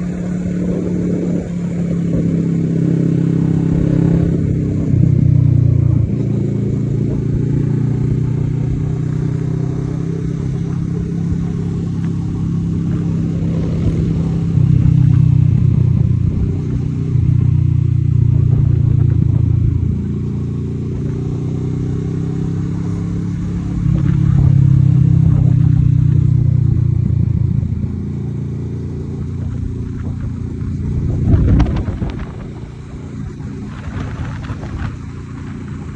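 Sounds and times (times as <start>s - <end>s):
motorcycle engine exhaust note: 0.0s - 35.9s.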